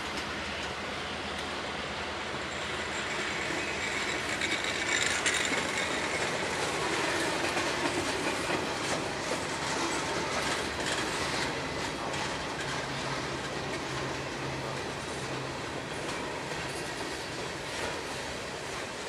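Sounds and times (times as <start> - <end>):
train wheels on rails: 0.0 - 19.0
wheels clicking over rail joints: 2.5 - 18.9.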